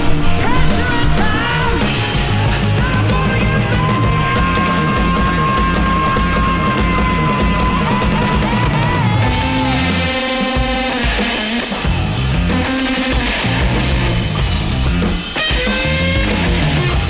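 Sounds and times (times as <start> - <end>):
rock music with drums and guitar: 0.0 - 17.0.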